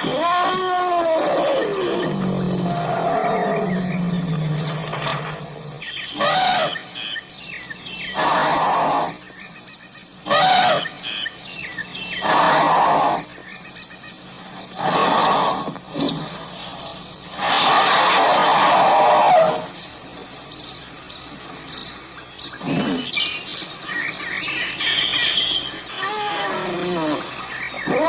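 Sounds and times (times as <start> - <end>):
elephant calling: 0.0 - 9.6, 10.2 - 19.8, 22.5 - 28.0
faint bird chirps: 0.0 - 28.0.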